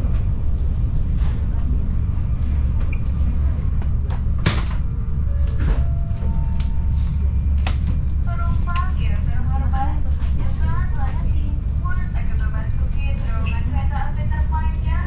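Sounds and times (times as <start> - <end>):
train rumbling from inside carriage: 0.0 - 15.0.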